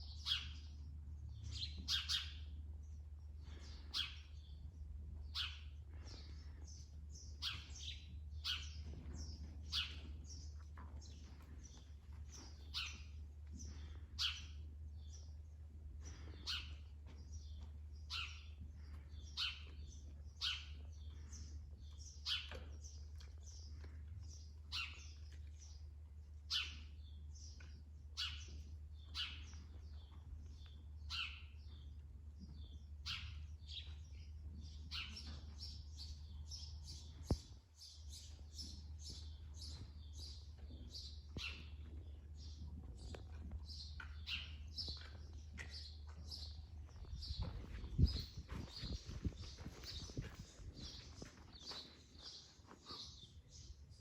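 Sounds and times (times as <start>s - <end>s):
small birds chirping: 0.0s - 54.0s
steady low hum: 0.0s - 54.0s.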